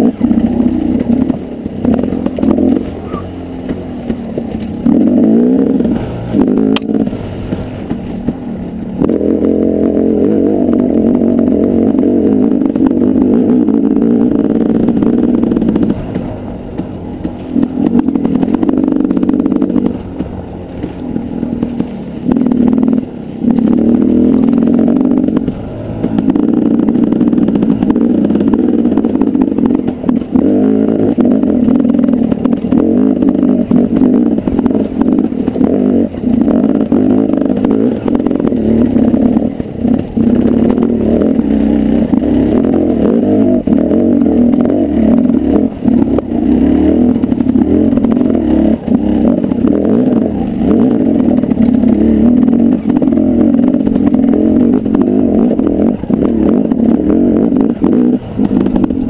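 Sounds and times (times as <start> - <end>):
dirt bike engine revving: 0.0 - 59.0
knocks and clatter over rocks: 0.0 - 59.0.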